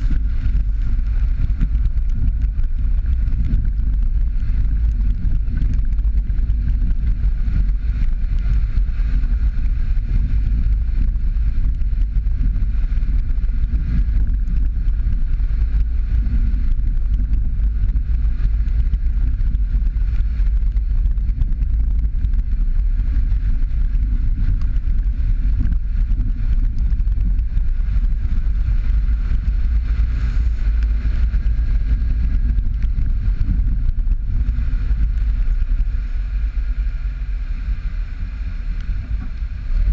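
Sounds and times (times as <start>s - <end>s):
engine and tyre rumble on gravel: 0.0s - 39.9s.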